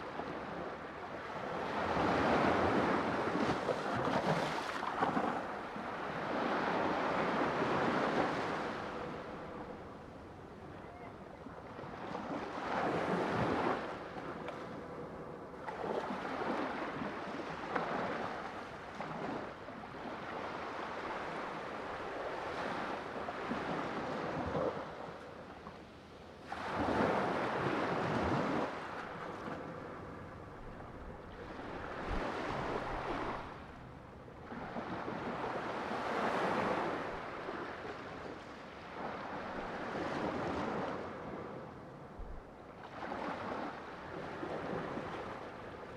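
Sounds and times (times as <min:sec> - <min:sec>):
sea waves breaking on shore: 0:00.0 - 0:09.9, 0:11.5 - 0:25.6, 0:26.4 - 0:45.9.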